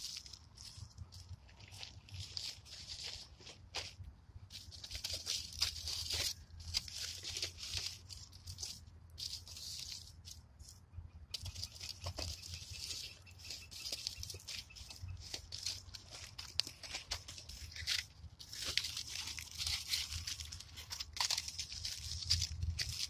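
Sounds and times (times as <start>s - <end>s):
aluminium foil crinkling: 0.0s - 10.4s, 11.3s - 23.0s.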